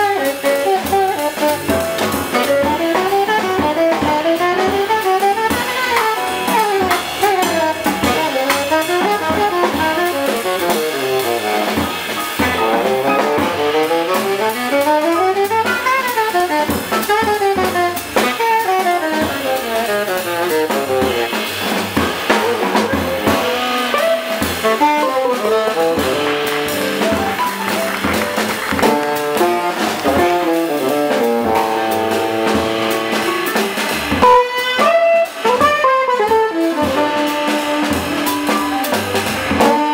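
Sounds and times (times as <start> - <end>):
upright bass: 0.0 - 35.8, 36.4 - 39.9
drum kit: 0.0 - 39.9
piano: 0.0 - 39.9
saxophone solo: 0.0 - 39.9.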